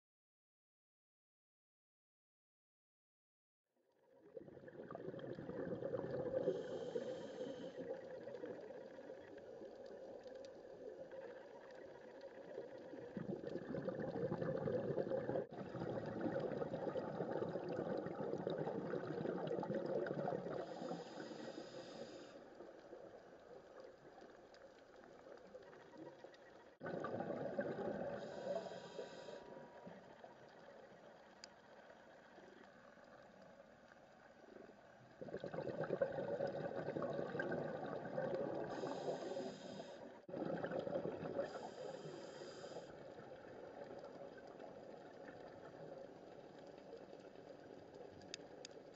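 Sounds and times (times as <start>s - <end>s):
underwater bubbling: 4.1s - 48.9s.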